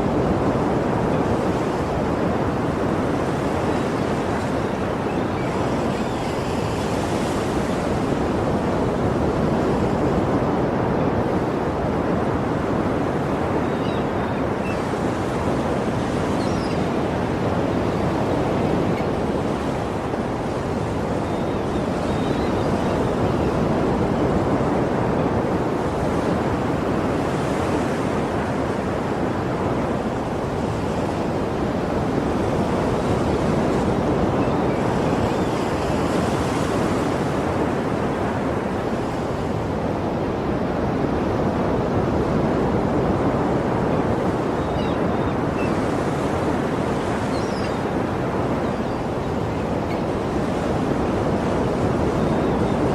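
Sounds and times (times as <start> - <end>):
sea waves washing: 0.0 - 52.9.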